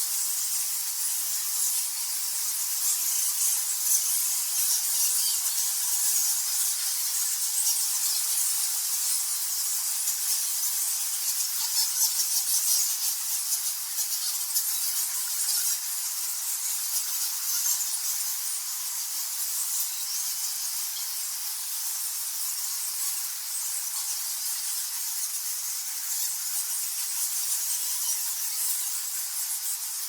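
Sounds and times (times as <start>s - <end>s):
bats squeaking and chattering: 0.2s - 30.0s.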